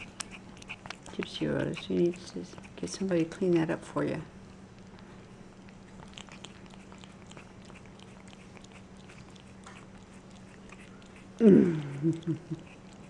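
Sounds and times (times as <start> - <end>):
cats licking: 0.0 - 3.5, 4.7 - 13.0.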